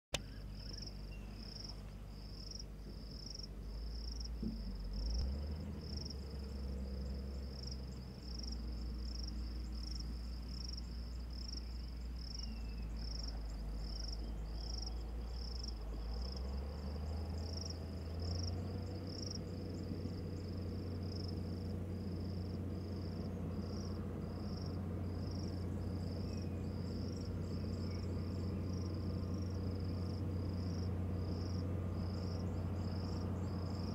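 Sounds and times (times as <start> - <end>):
low steady rumble: 0.1 - 33.9
insect chirping: 0.2 - 33.9.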